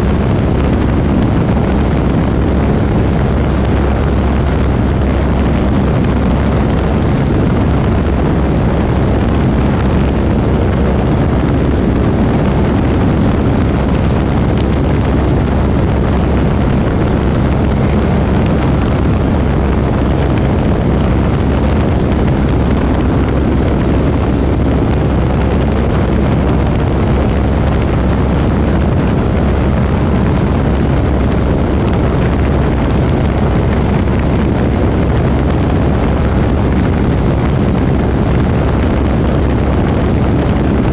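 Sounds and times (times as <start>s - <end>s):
propeller airplane engine drone: 0.0s - 40.9s.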